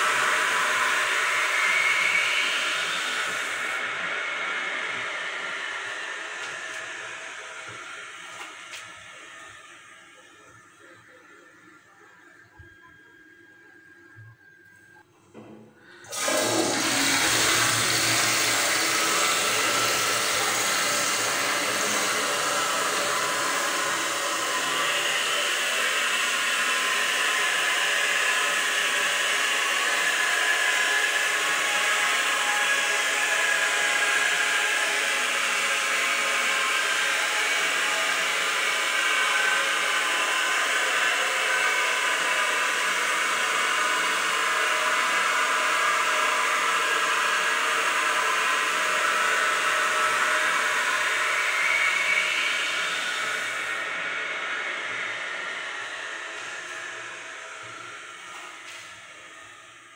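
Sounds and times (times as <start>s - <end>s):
toilet flushing with echo: 0.0s - 11.3s, 15.3s - 59.9s.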